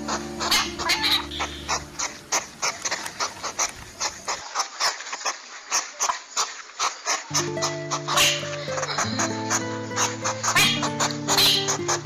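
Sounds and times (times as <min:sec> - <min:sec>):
hedgehog sniffing and snuffling: 0:00.0 - 0:12.0.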